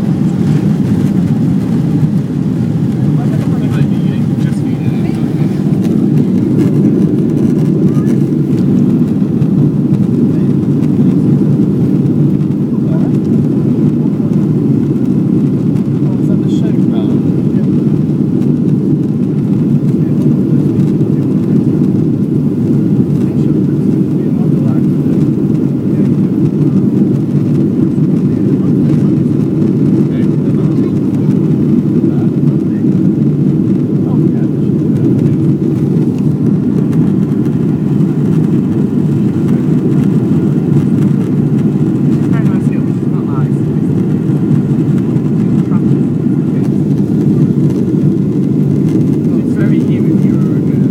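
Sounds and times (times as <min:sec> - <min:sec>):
jet engine cabin rumble: 0:00.0 - 0:50.9.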